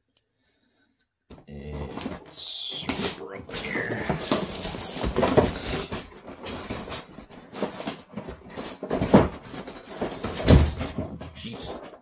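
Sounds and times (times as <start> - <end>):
cardboard rustling and scraping: 1.8 - 12.0.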